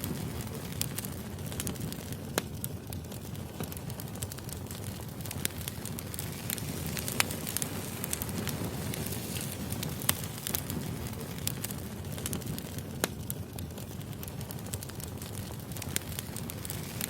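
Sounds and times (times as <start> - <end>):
fire crackles and pops: 0.0 - 17.0
fire rumbling: 0.0 - 17.0.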